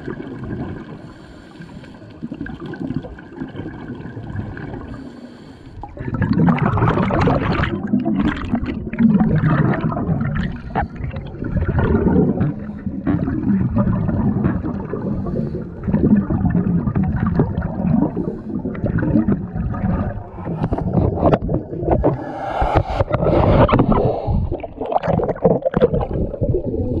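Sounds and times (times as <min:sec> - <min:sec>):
underwater bubbles gurgling: 0:00.0 - 0:27.0
water churning: 0:00.0 - 0:27.0.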